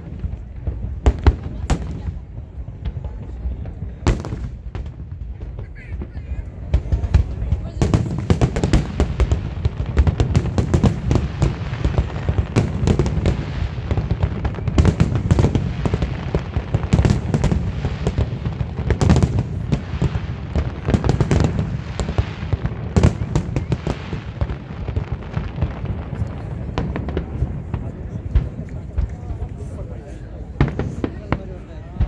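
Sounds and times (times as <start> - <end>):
fireworks bangs and cracks: 0.0 - 32.0.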